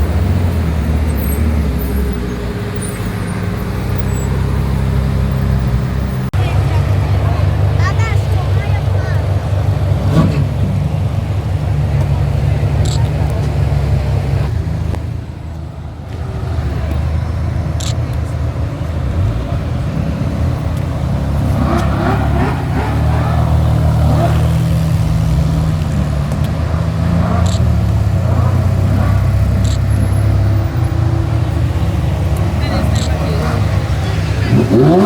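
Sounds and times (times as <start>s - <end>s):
sports car engines low drone: 0.0s - 35.0s.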